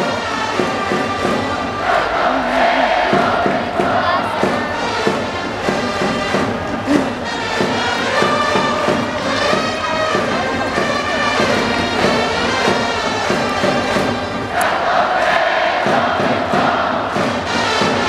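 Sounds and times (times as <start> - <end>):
crowd noise: 0.0 - 18.0
steady drum beat: 0.0 - 18.0
trumpets playing a cheer melody: 0.0 - 18.0.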